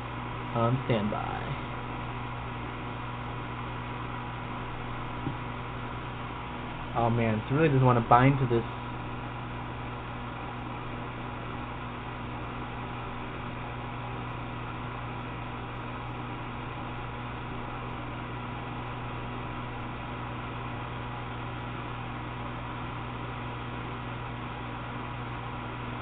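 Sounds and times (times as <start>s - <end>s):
electrical hum: 0.0s - 26.0s
fan-like hiss: 0.0s - 26.0s.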